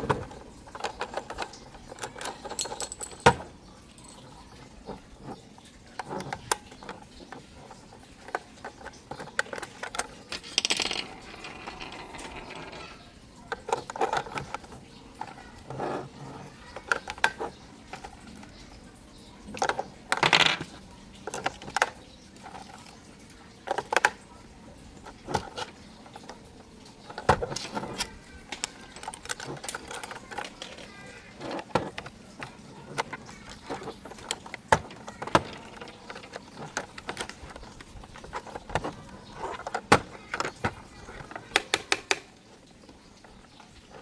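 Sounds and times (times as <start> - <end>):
plastic toy parts clattering: 0.0 - 44.0.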